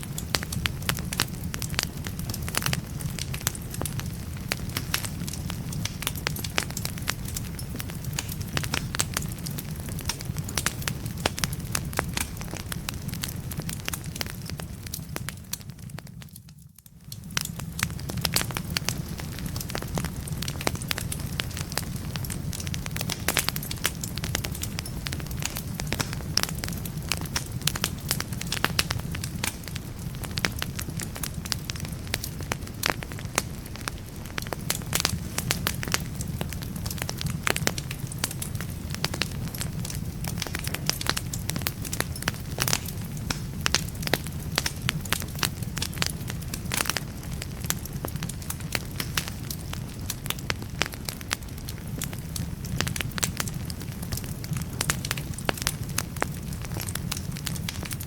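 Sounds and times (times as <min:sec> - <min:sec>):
burning logs crackling and popping: 0:00.0 - 0:58.0
fire flames rumbling: 0:00.0 - 0:58.0.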